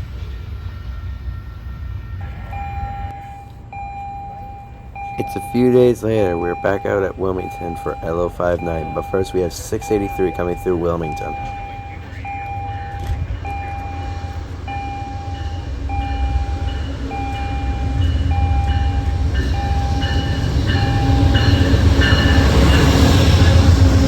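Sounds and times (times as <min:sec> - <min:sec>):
train rumbling: 0:00.0 - 0:24.0
crossing bell dinging: 0:00.5 - 0:24.0.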